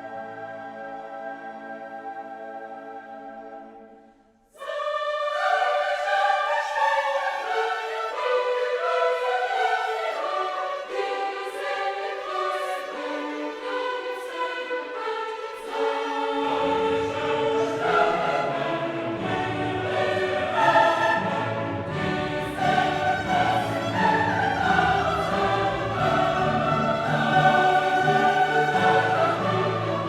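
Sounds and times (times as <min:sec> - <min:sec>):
choral and orchestral music: 0:00.0 - 0:30.0.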